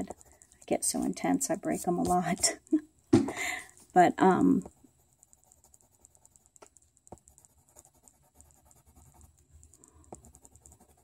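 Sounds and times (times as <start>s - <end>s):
pencil scratching on paper: 0.0s - 2.6s, 3.8s - 11.0s.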